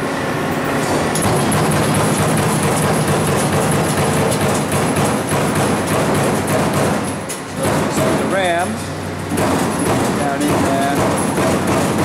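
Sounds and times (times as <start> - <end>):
punch press clatter: 1.1 - 8.4, 9.3 - 12.0.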